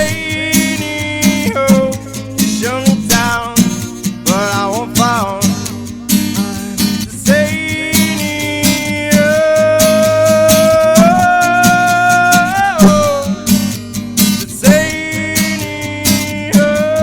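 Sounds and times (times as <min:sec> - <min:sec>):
steady beat: 0:00.0 - 0:17.0
strummed acoustic guitar: 0:00.0 - 0:17.0.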